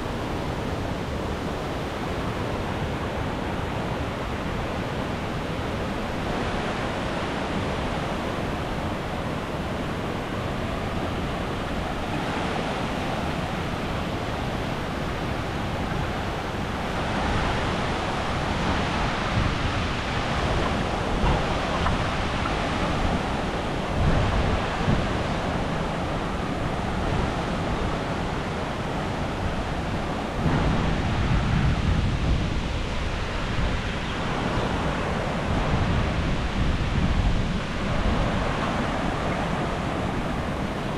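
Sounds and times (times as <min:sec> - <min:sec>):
waterfall rushing: 0:00.0 - 0:40.9
wind buffeting microphone: 0:00.0 - 0:40.9.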